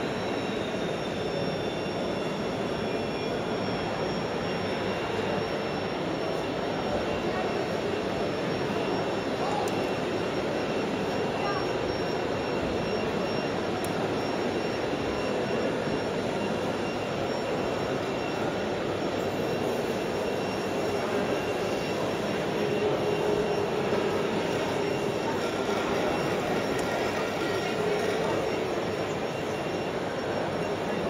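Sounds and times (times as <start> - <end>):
background din of hall: 0.0 - 31.0
faint high whines: 0.0 - 31.0.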